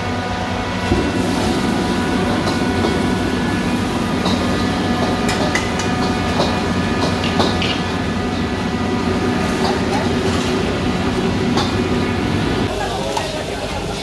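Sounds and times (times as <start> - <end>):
mechanical rushing noise: 0.8 - 12.7.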